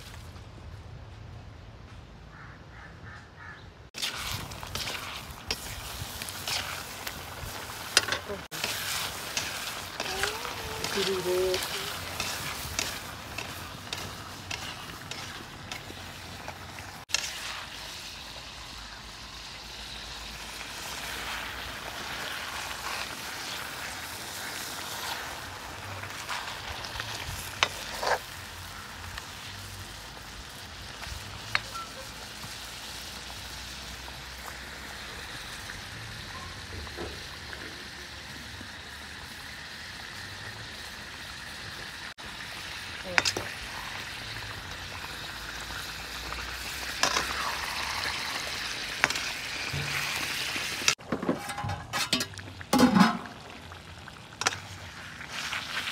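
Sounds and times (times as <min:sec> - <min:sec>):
curry sizzling in a wok: 0:04.0 - 0:55.9.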